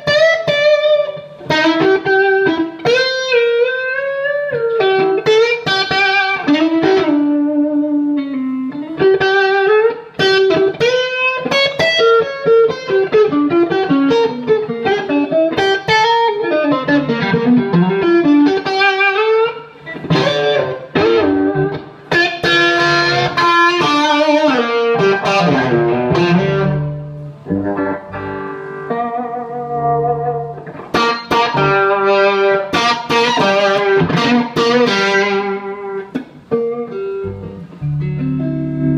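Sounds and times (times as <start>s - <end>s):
electric guitar lead: 0.0s - 38.9s.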